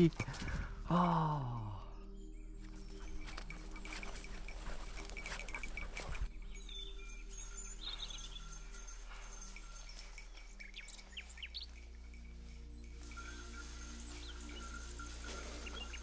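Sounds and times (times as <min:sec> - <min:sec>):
small birds chirping: 0:01.7 - 0:16.0.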